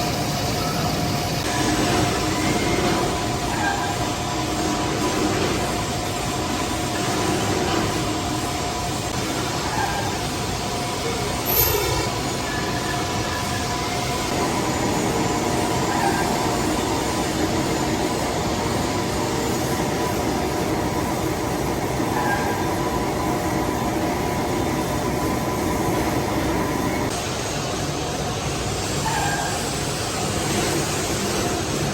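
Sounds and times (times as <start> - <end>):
metal lathe running: 0.0 - 31.9.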